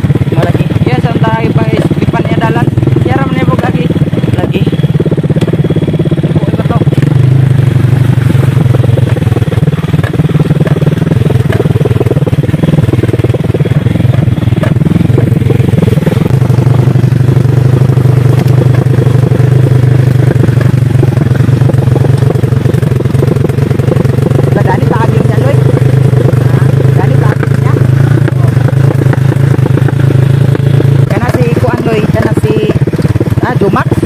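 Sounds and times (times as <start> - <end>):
small motorcycle engine running: 0.0 - 34.0.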